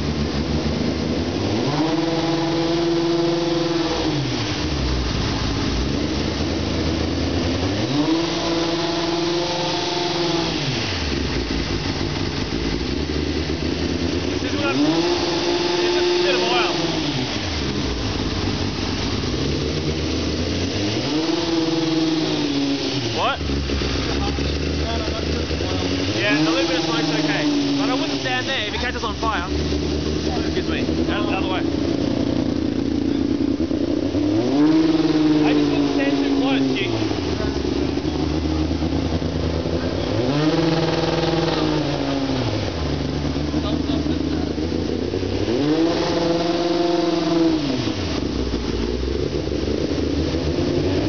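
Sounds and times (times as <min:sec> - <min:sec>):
race car engine idling: 0:00.0 - 0:51.0.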